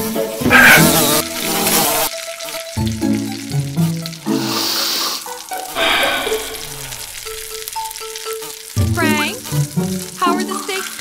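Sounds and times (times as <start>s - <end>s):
light background music: 0.0s - 11.0s
cartoon steak sizzling: 0.1s - 11.0s.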